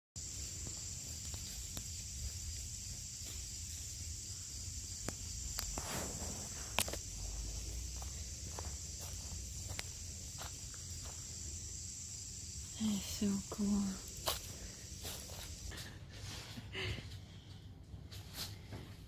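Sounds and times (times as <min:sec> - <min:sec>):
insect drone: 0:00.2 - 0:19.0.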